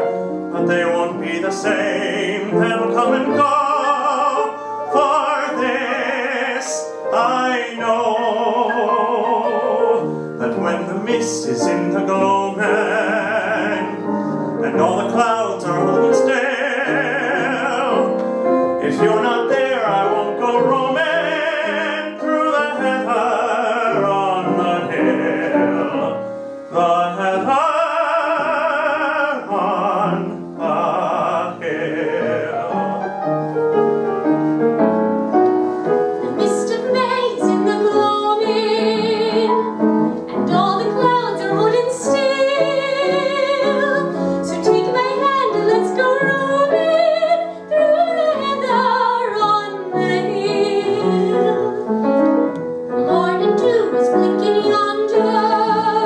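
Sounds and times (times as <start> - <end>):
piano: 0.0 - 56.0
man and woman singing duet: 0.5 - 33.1, 36.2 - 52.1, 52.9 - 56.0.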